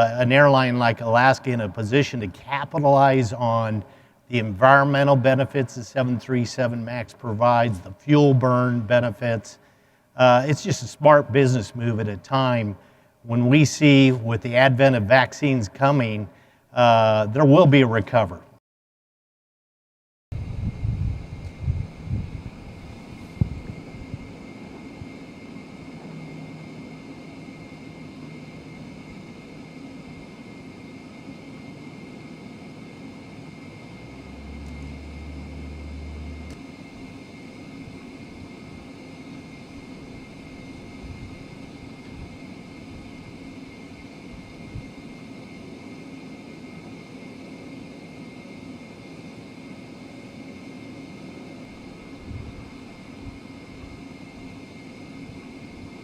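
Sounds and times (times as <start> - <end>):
jet engines running: 0.0 - 17.9, 20.4 - 56.0.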